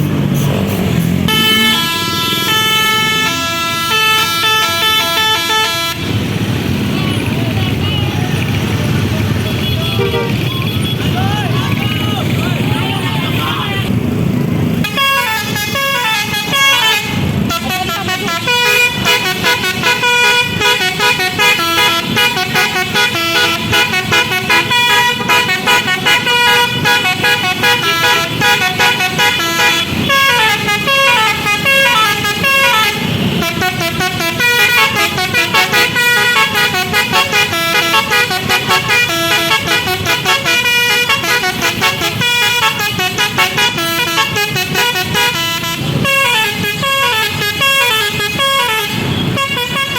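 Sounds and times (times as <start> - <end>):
bus horn playing a melody: 1.2 - 6.4, 9.6 - 11.0, 14.7 - 49.9.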